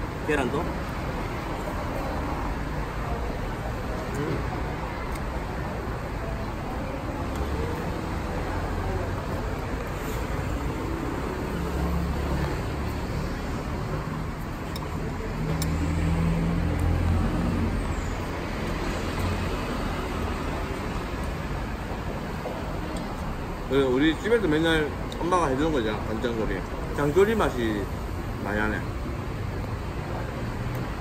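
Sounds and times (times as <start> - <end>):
passing vehicles rumbling: 0.0 - 31.0.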